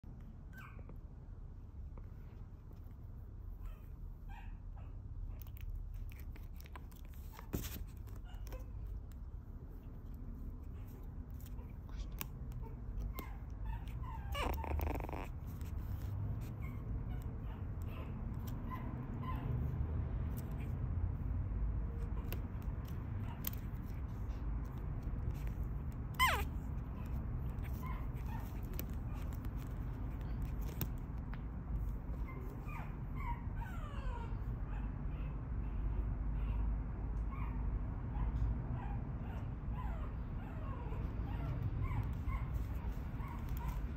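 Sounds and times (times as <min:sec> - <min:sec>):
low steady hum: 0:00.0 - 0:43.9
puppy whining faintly: 0:00.2 - 0:21.2, 0:21.8 - 0:43.9
puppy whimpering: 0:00.4 - 0:01.0, 0:03.6 - 0:09.2, 0:10.6 - 0:19.6, 0:21.9 - 0:31.1, 0:31.8 - 0:36.7, 0:37.3 - 0:43.9.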